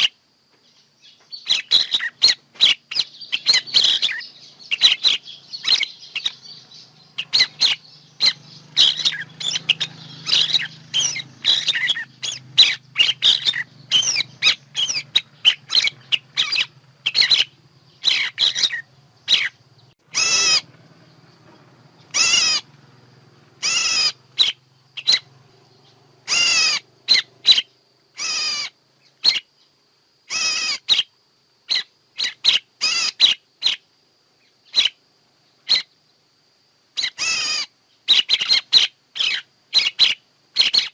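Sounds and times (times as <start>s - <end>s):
songbird chirps and whistles: 0.0s - 22.8s, 23.6s - 36.3s, 36.9s - 40.9s
harsh bird calls: 0.0s - 36.1s, 37.0s - 40.9s.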